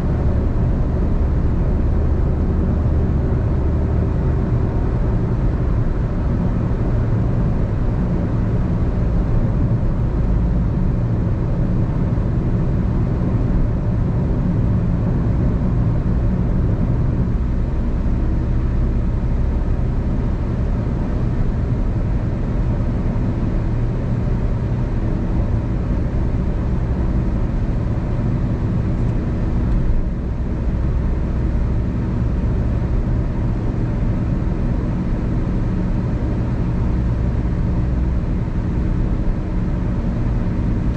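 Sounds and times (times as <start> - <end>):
car driving at speed: 0.0 - 40.9.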